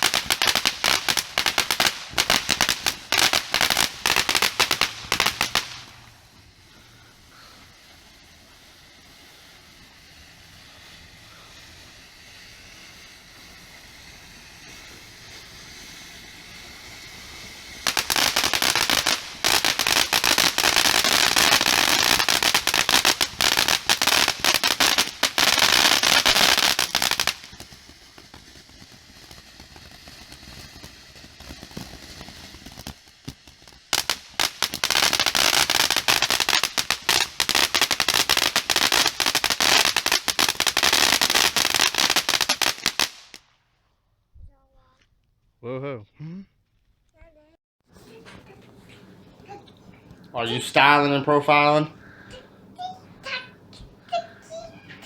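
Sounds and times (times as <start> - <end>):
fireworks crackling pops: 0.0 - 45.5, 46.7 - 55.0.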